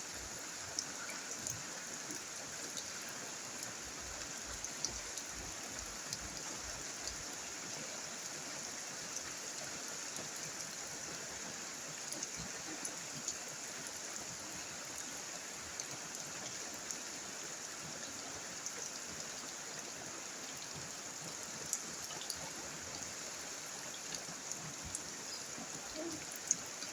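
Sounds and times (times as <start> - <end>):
rain falling: 0.0 - 26.9.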